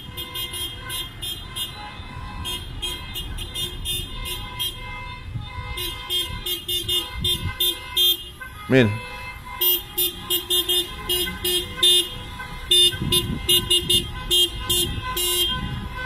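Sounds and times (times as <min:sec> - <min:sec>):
car horns honking: 0:00.0 - 0:16.0
street traffic rumble: 0:00.0 - 0:16.0.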